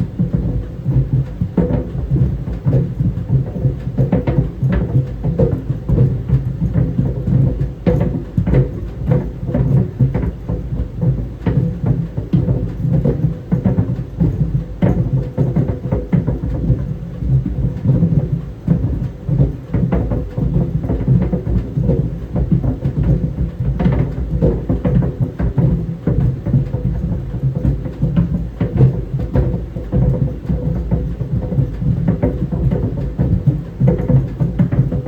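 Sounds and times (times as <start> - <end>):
balls thudding in a dryer: 0.0 - 35.0
dryer rumble: 0.0 - 35.0.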